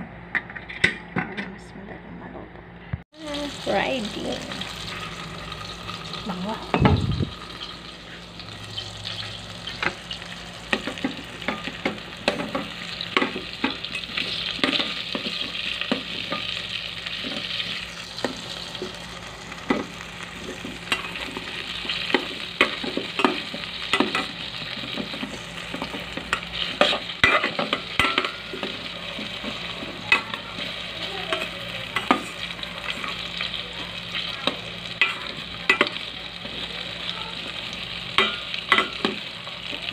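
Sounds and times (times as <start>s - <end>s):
potato slices sizzling in butter: 3.2s - 39.9s.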